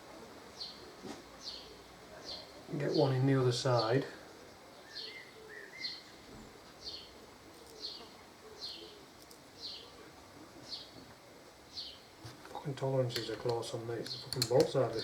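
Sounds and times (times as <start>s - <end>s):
bird chirping: 0.5s - 15.0s.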